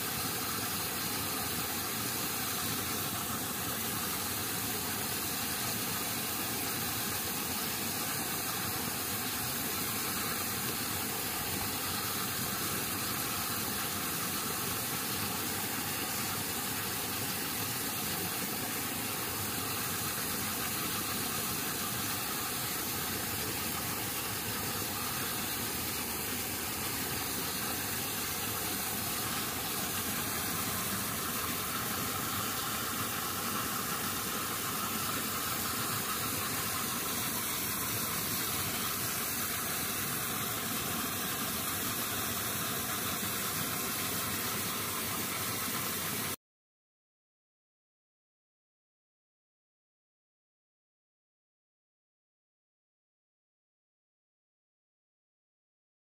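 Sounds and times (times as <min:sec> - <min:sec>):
steady rushing hiss: 0:00.0 - 0:46.4.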